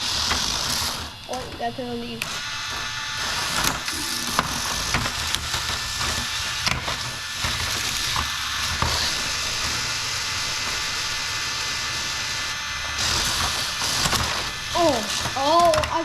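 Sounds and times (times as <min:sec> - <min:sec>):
small electric motors whirring: 0:00.0 - 0:16.0.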